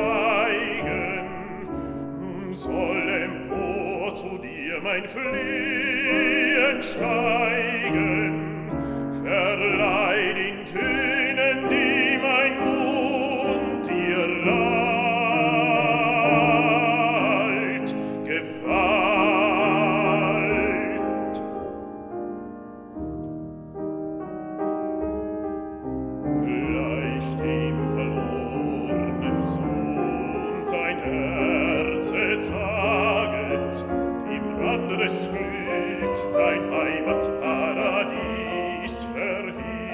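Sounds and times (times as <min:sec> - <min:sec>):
man singing with vibrato: 0:00.0 - 0:21.8, 0:26.4 - 0:39.9
grand piano: 0:00.0 - 0:39.9.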